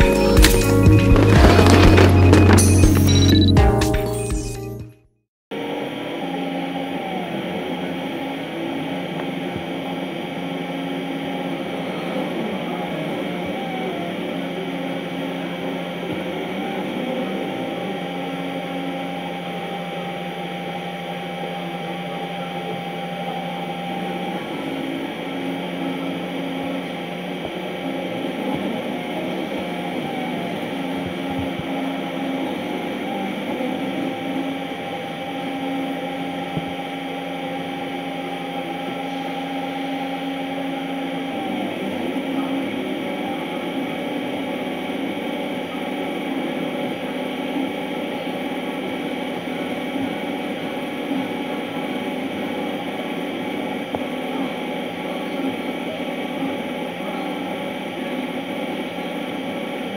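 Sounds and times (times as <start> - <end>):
fans whirring: 0.0 - 3.8, 5.5 - 59.9
stepper motors humming: 0.0 - 4.7, 5.5 - 59.9.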